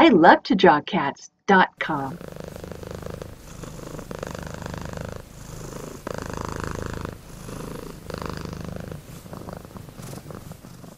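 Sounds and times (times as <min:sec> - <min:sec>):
cat purring: 0:01.8 - 0:10.9.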